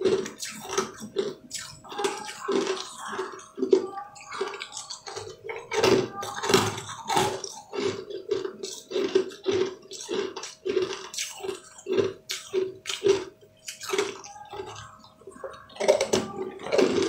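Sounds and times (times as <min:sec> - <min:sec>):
crunchy candy chewing: 0:00.0 - 0:17.0
wet squishing mouth sounds: 0:00.0 - 0:17.0.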